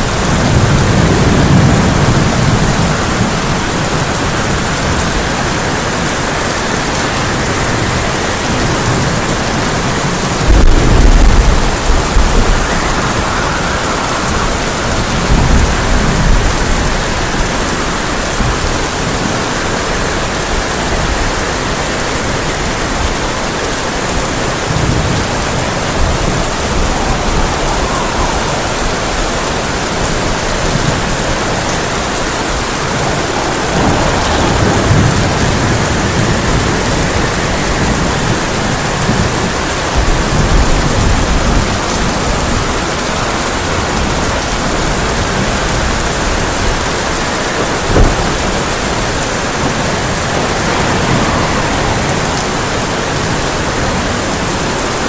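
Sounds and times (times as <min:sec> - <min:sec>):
heavy rain on a tin roof: 0:00.0 - 0:55.0
thunder rolling: 0:00.0 - 0:55.0.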